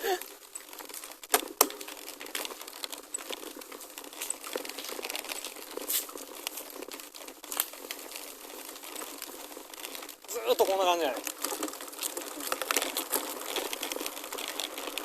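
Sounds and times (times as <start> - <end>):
bike hitting stones: 0.0 - 15.0
bike tyres crunching on gravel: 0.0 - 15.0.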